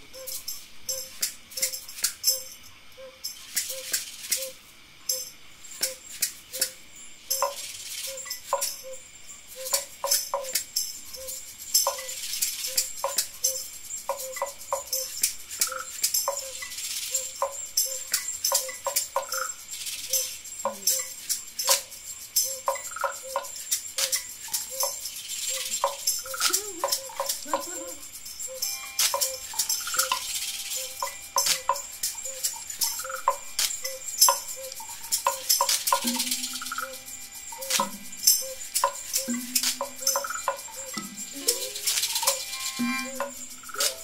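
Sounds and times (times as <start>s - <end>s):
rattles and shakers shaking: 0.0s - 44.0s.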